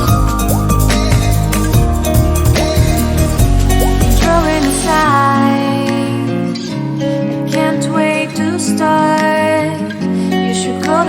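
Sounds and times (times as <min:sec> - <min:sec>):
pop song playing: 0:00.0 - 0:11.0.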